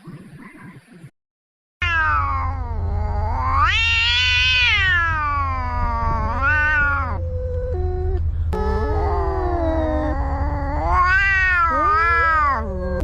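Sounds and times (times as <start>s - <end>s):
cat yowling: 1.8s - 7.9s, 8.6s - 13.0s
steady low hum: 2.2s - 13.0s.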